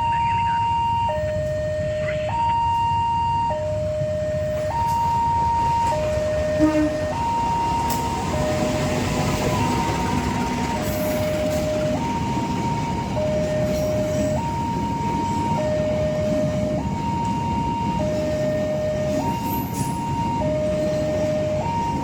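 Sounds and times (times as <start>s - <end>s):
two-tone hi-lo siren: 0.0s - 22.0s.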